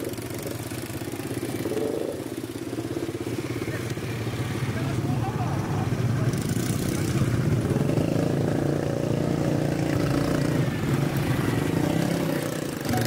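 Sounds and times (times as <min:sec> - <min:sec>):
quad bike engines revving: 0:00.0 - 0:13.0.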